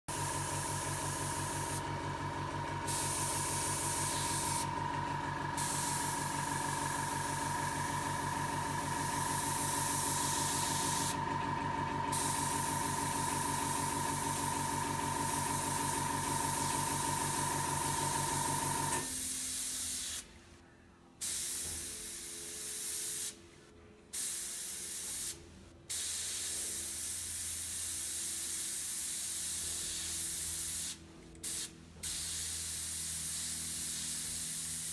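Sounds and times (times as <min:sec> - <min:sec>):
airbrush hissing: 0:00.1 - 0:01.8, 0:02.9 - 0:04.7, 0:05.6 - 0:11.2, 0:12.1 - 0:20.3, 0:24.2 - 0:34.9.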